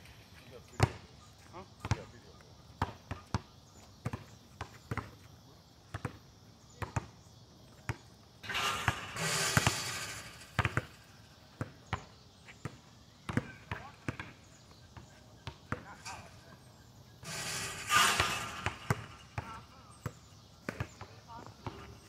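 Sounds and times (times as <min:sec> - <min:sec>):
basketball bouncing on asphalt: 0:00.7 - 0:01.1, 0:01.8 - 0:16.3, 0:17.2 - 0:22.0.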